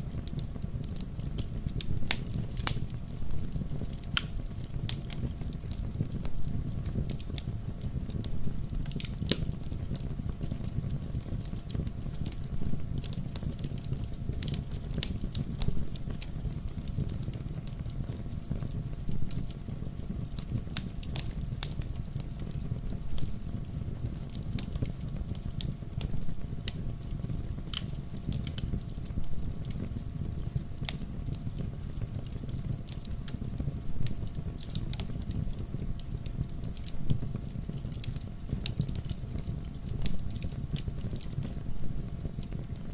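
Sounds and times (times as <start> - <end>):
fire crackling and popping: 0.0 - 42.9
low rush of flames: 0.0 - 42.9.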